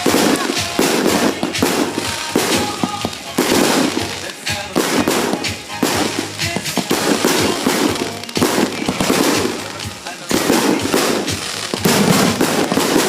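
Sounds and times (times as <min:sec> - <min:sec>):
fireworks bangs and crackling: 0:00.0 - 0:13.0
music playing: 0:00.0 - 0:13.0.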